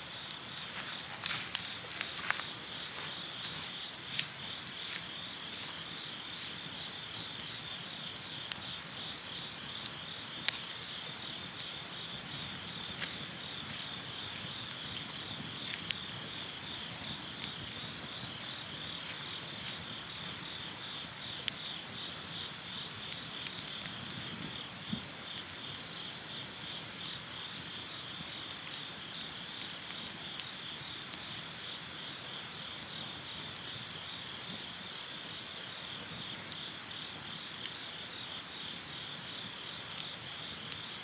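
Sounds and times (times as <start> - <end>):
wood fire popping: 0.0 - 41.0
insects chirping: 0.1 - 41.0.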